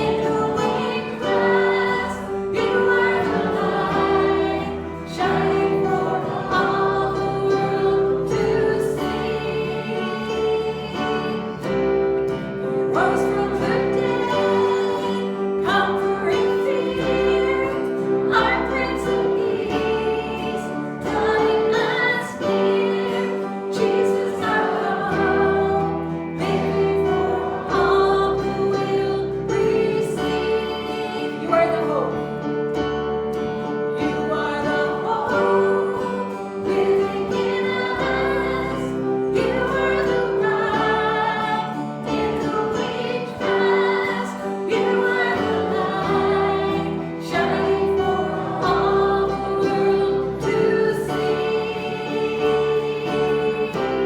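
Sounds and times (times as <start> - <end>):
group of voices singing: 0.0 - 54.0
instrumental accompaniment: 0.0 - 54.0.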